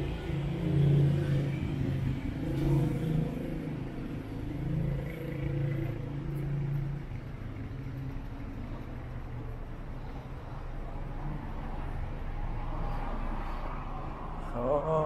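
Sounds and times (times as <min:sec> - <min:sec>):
car engines passing: 0:00.0 - 0:15.0
city noise: 0:00.0 - 0:15.0.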